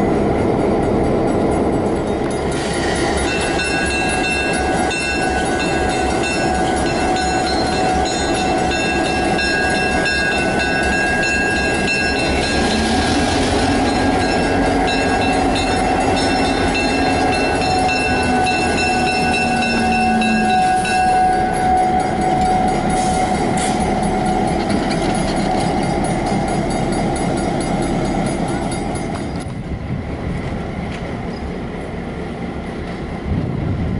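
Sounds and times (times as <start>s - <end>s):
diesel locomotive engine drone: 0.0s - 33.9s
train wheel and rail noise: 0.0s - 33.9s.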